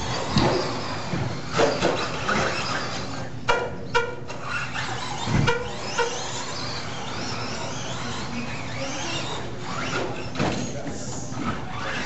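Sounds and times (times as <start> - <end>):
rc truck motors whining: 0.0 - 3.4, 4.2 - 10.7, 11.3 - 12.0.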